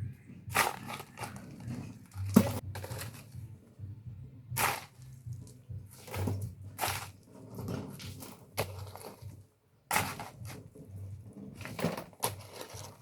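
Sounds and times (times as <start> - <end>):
rustling crunching noises: 0.0 - 3.6, 4.5 - 13.0
low steady hum: 0.0 - 13.0.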